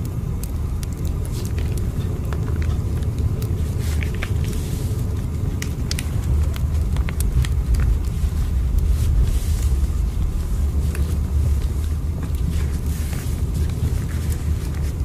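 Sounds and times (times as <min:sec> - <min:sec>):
train rumbling: 0:00.5 - 0:15.0.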